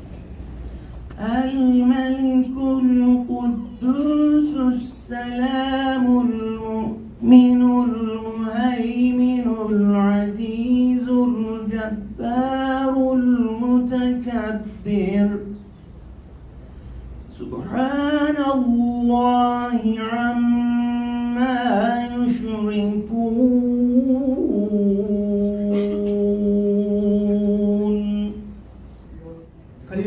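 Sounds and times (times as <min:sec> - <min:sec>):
man singing devotional song: 0:01.1 - 0:15.6, 0:17.3 - 0:28.5.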